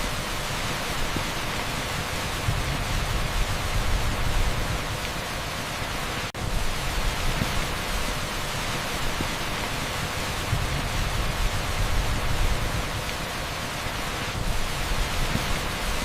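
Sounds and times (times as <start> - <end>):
heavy rain on asphalt: 0.0 - 16.0.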